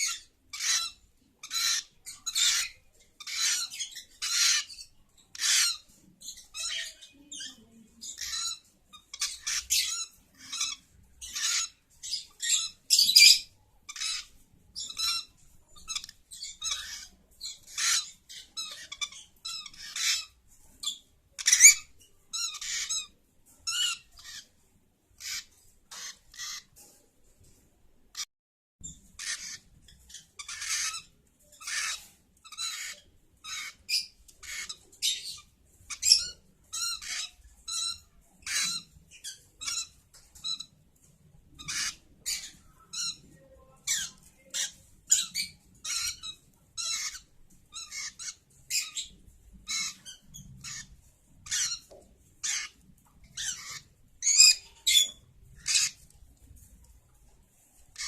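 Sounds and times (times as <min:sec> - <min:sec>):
lovebird squawking and chirping: 0:00.0 - 0:24.5, 0:25.2 - 0:26.8, 0:28.1 - 0:40.7, 0:41.6 - 0:56.7.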